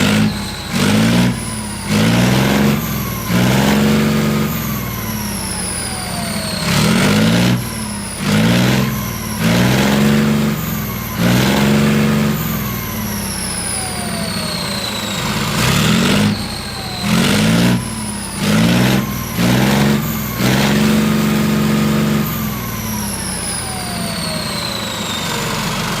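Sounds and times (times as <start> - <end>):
high whines gliding down: 0.0 - 26.0
tank diesel engine revving: 0.0 - 26.0.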